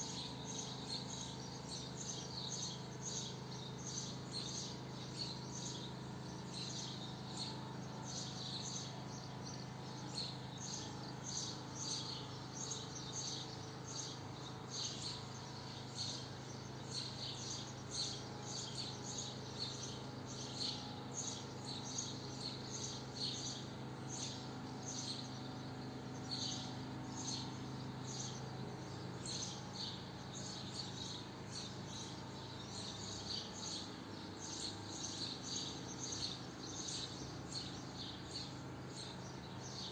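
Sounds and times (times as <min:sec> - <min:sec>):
steady low hum: 0:00.0 - 0:39.9
swallows twittering: 0:00.0 - 0:39.9.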